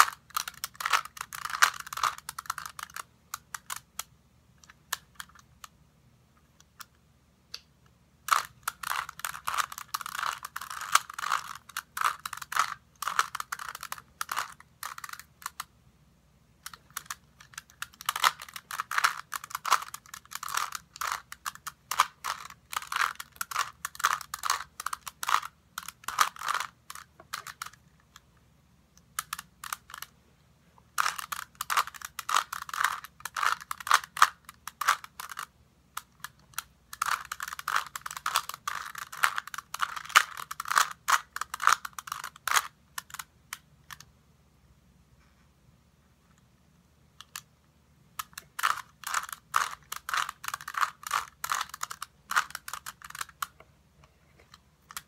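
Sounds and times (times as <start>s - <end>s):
plastic cube clicking as turned: 0.0s - 5.7s, 8.2s - 15.7s, 16.6s - 28.2s, 29.0s - 30.1s, 30.9s - 44.1s, 47.2s - 47.5s, 48.2s - 53.6s, 54.5s - 55.0s.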